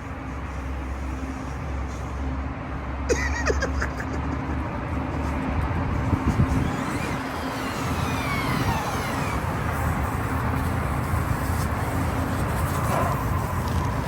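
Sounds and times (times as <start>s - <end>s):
rc truck rumble: 0.0s - 14.0s.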